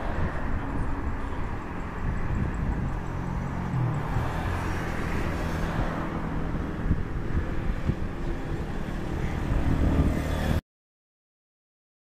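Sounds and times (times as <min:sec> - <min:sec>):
jet engines low rumble: 0:00.0 - 0:10.6.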